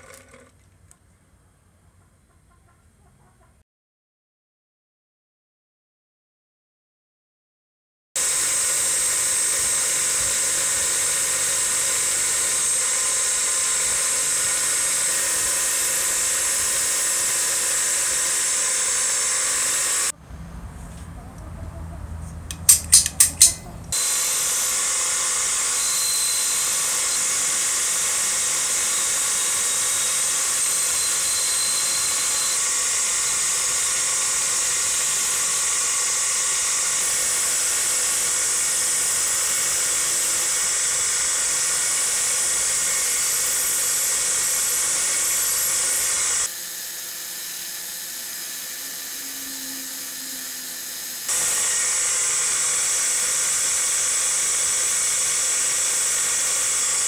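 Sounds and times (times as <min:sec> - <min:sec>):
bench grinder grinding metal: 0:00.0 - 0:00.5, 0:08.2 - 0:20.1, 0:22.5 - 0:57.0.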